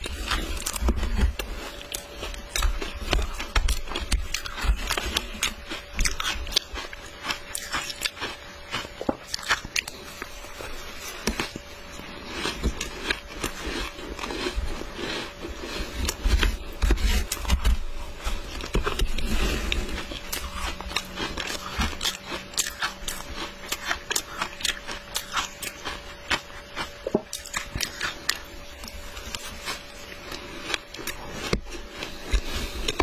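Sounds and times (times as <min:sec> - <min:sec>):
ice crunching while chewed: 0:00.0 - 0:33.0.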